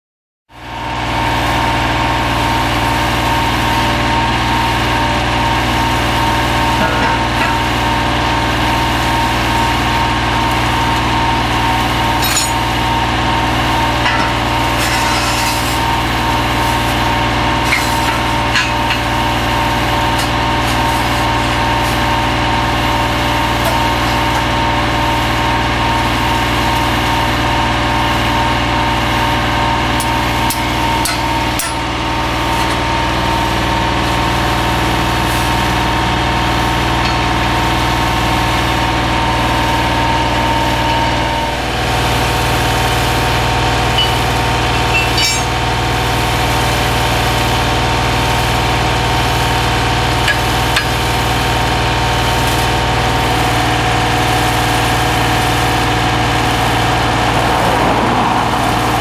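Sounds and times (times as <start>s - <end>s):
boring machine drone with whine: 0.5s - 59.0s.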